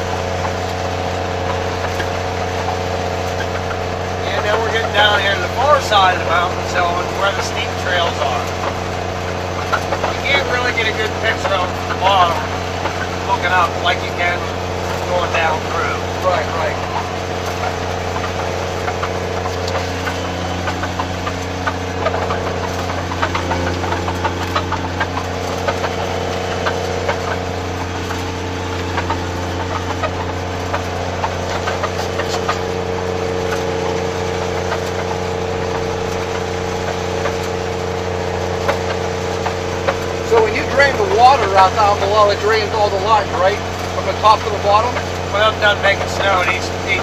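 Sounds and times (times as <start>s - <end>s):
snowcat engine droning: 0.0s - 47.0s.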